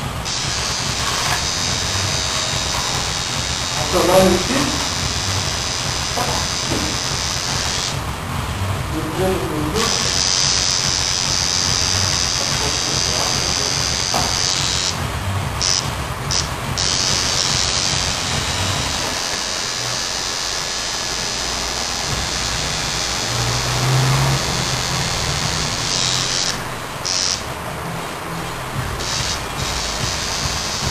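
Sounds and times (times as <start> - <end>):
tattoo machine buzzing: 0.0 - 27.6, 28.8 - 30.9.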